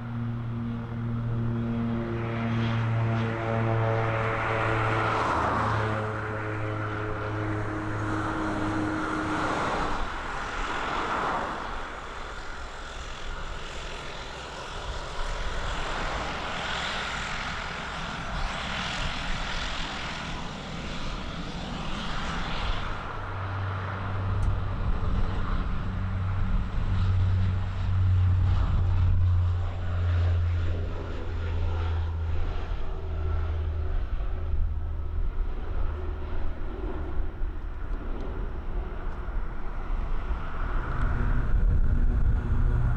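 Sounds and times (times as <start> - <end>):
low propeller drone: 0.0 - 42.9
turboprop engine whine: 0.0 - 42.9.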